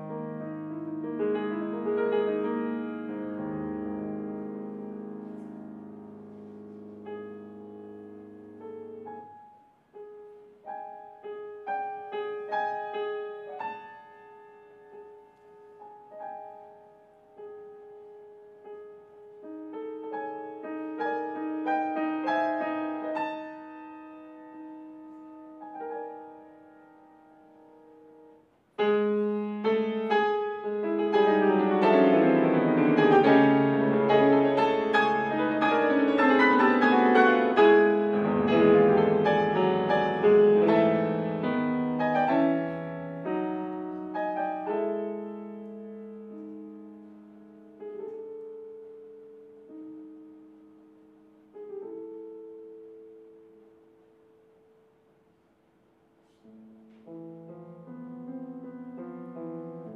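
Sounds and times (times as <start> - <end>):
solo piano piece: 0.0 - 59.9.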